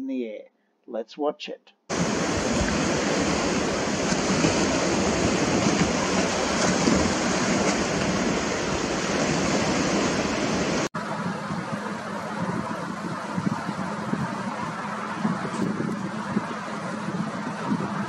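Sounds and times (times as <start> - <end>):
sea rushing: 1.9 - 18.0
wind: 1.9 - 18.0.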